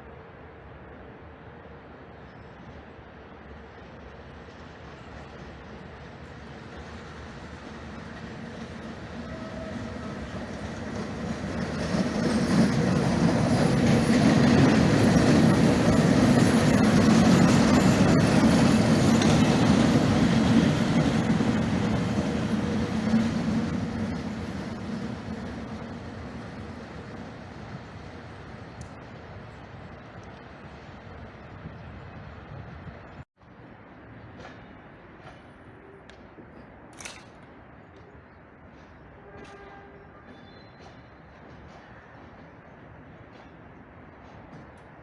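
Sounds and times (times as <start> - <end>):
passenger train passing: 0.0 - 45.0.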